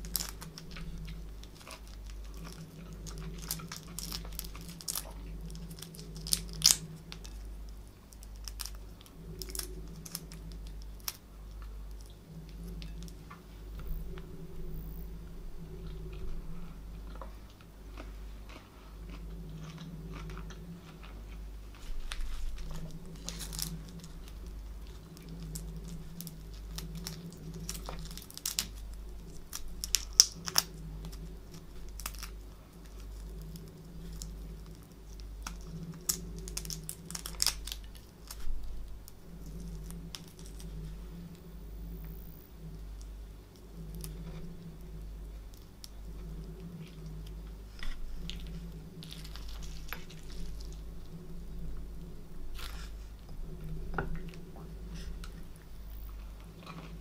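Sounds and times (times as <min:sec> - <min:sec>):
prawn shells crackling: 0:00.0 - 0:53.8
low steady hum: 0:00.0 - 0:57.0.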